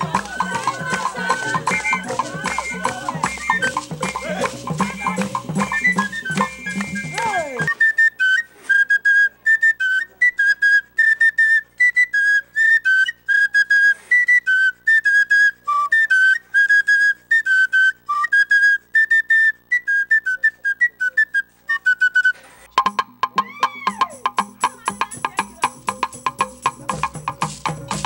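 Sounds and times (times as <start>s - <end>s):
flute piping notes: 0.0s - 25.8s.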